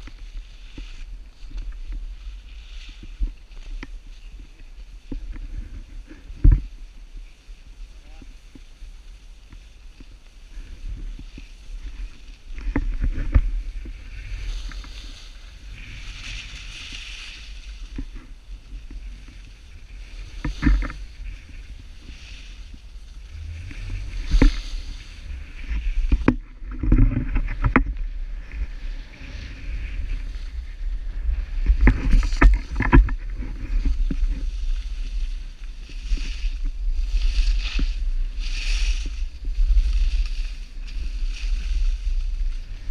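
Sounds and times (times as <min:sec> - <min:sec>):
low wind rumble: 0:00.0 - 0:42.9
skis scraping over snow: 0:00.0 - 0:42.9.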